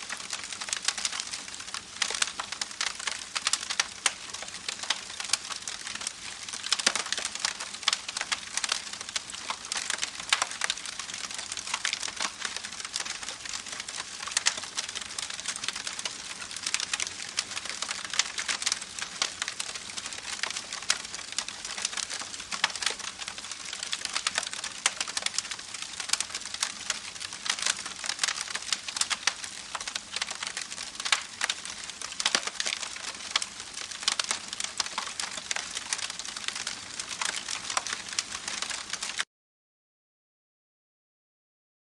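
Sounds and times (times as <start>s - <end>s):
campfire crackling: 0.0s - 39.2s.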